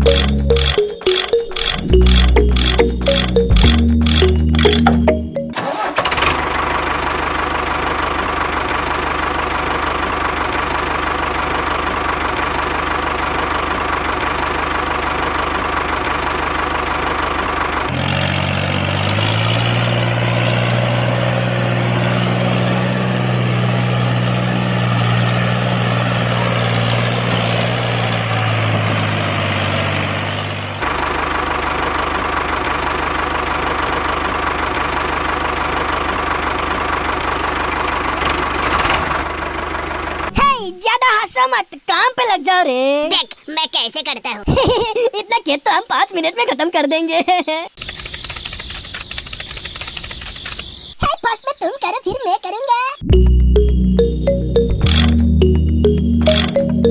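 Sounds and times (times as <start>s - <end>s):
small tractor engine running: 0.0s - 40.3s, 47.8s - 50.8s, 54.6s - 56.9s.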